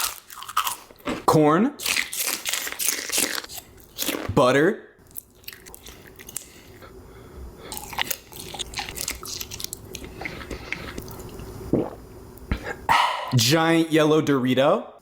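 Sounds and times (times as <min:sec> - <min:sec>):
person chewing and crunching food: 0:00.0 - 0:04.4, 0:05.0 - 0:06.9, 0:07.6 - 0:13.3.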